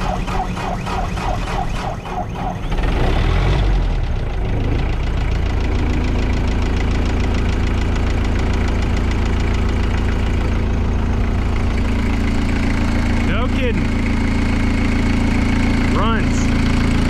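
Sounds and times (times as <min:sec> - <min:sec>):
wood chipper diesel engine idling: 0:00.0 - 0:17.0.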